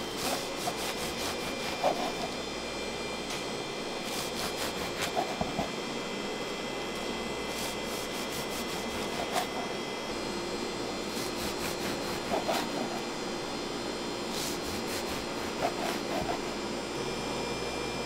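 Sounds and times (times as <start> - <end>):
indoor hum: 0.0 - 18.0.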